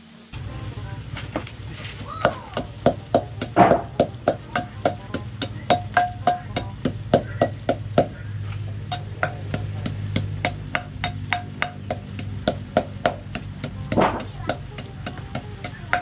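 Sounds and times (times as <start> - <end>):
wooden pestle pounding in mortar: 1.8 - 16.0.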